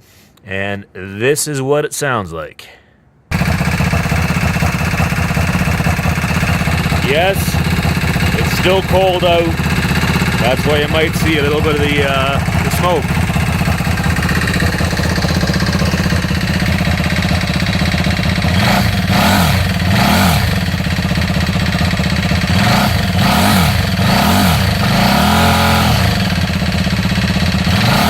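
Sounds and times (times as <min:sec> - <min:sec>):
motorcycle engine idling and revving: 0:03.3 - 0:28.0.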